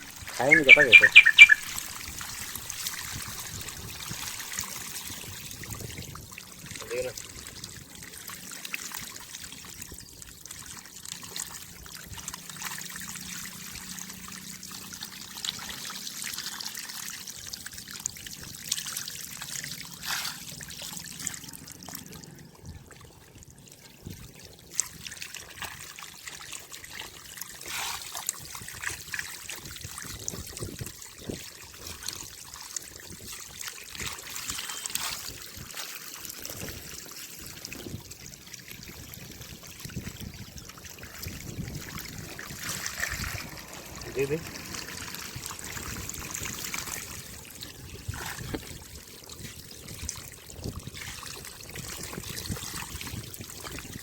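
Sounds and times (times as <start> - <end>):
fish splashing at water surface: 6.7 - 22.4, 24.4 - 54.0.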